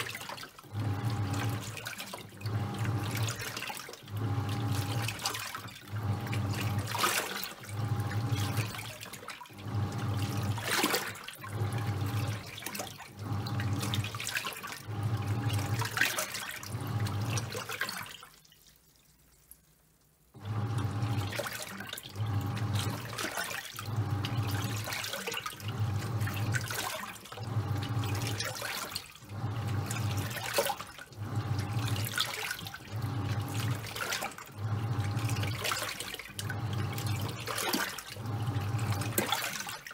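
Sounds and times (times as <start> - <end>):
washing machine motor humming: 0.0 - 18.2, 20.3 - 39.9
water and towels sloshing: 0.0 - 19.7, 20.3 - 39.9.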